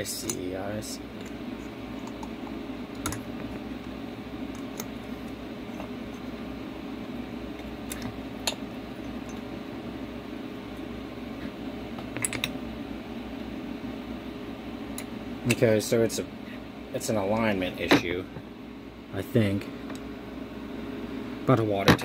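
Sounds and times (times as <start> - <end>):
room hum: 0.0 - 22.0.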